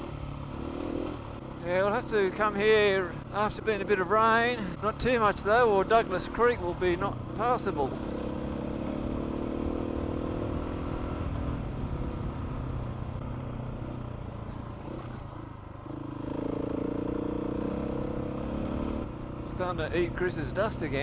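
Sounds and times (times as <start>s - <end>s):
motorcycle engine riding: 0.0s - 21.0s.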